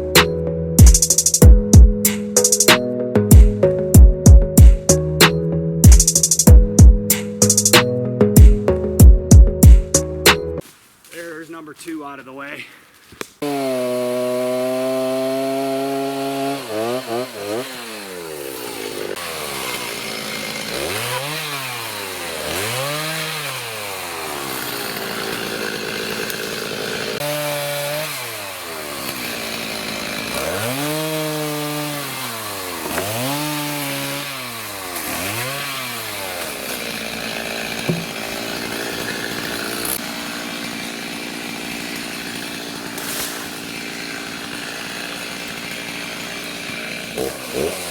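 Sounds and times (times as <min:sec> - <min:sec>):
chainsaw cutting wood: 0:00.0 - 0:10.4, 0:13.2 - 0:47.9.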